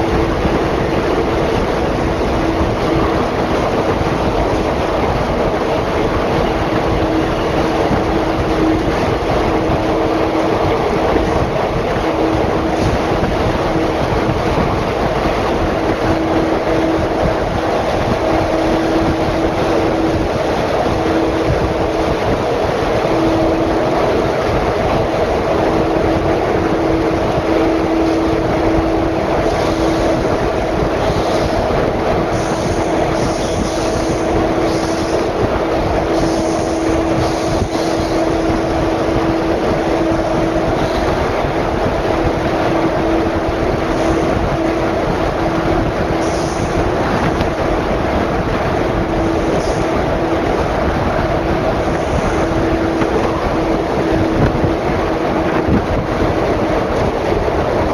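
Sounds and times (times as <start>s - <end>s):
train rumbling through tunnel: 0.0s - 57.9s.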